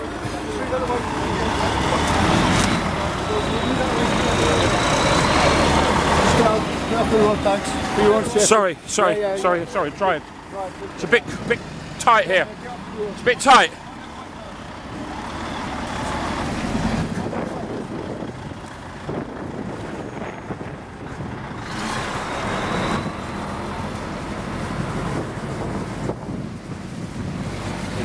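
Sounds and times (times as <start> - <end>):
lorry diesel engine running: 0.0 - 28.0
road noise: 0.0 - 28.0.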